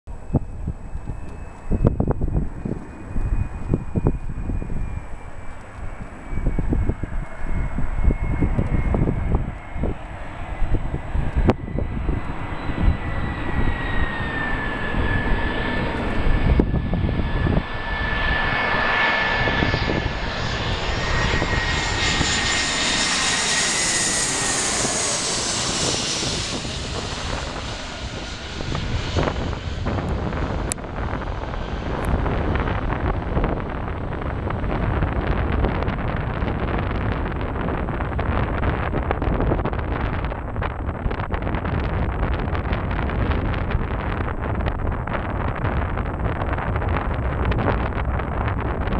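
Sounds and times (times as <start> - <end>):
jet airliner passing overhead: 0.1 - 48.9.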